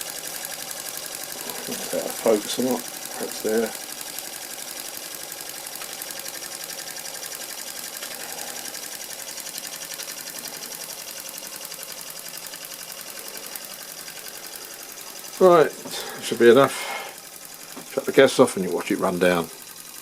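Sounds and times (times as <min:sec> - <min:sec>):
toy steam engine running: 0:00.0 - 0:20.0.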